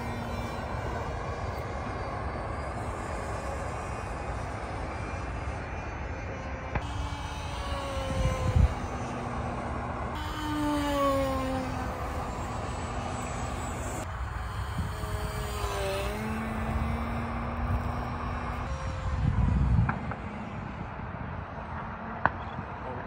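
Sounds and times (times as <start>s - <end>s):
model plane engine buzzing: 0.0s - 22.9s.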